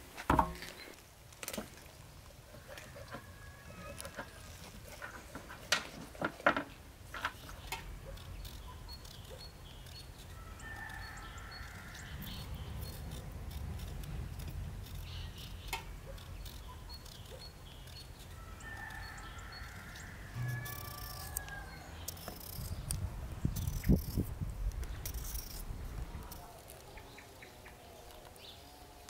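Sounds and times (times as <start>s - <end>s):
birds calling faintly: 1.6s - 29.0s.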